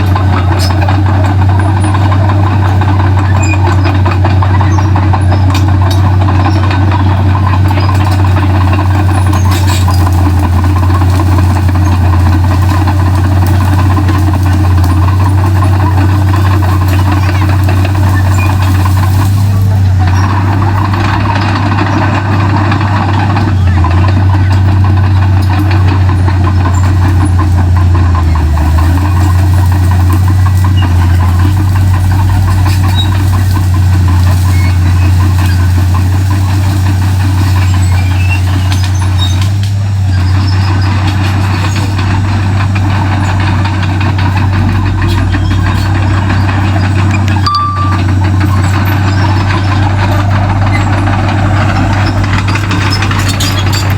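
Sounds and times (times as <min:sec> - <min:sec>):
bulldozer diesel engine droning: 0:00.0 - 0:53.9.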